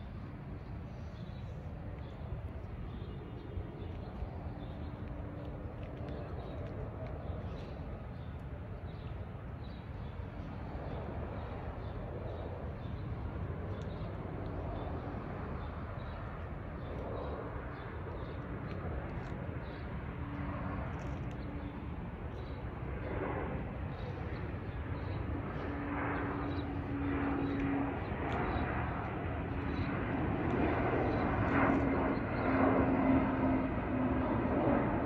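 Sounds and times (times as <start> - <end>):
distant jet engine rumble: 0.0 - 35.0.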